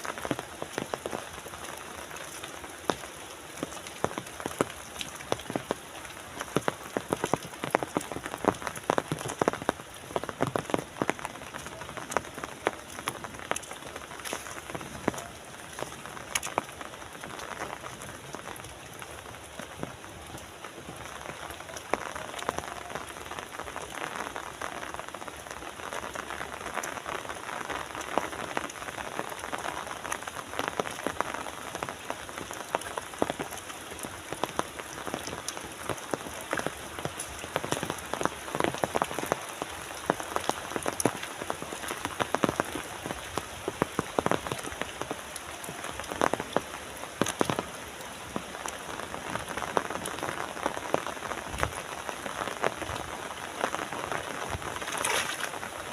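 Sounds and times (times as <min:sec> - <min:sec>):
rain falling: 0:00.0 - 0:55.9
raindrop impacts: 0:00.0 - 0:55.9.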